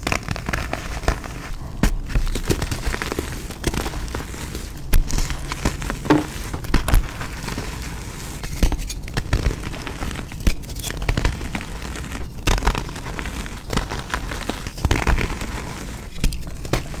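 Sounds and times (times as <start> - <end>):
hands crushing chalk: 0.0 - 17.0.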